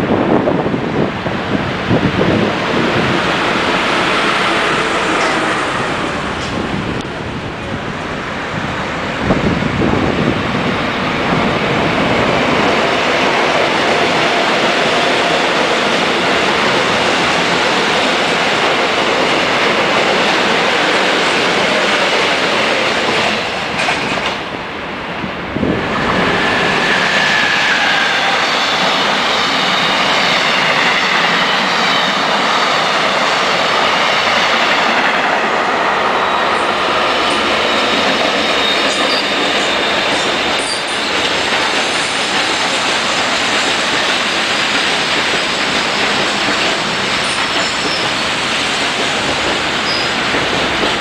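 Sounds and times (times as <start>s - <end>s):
trains passing at speed: 0.0s - 51.0s.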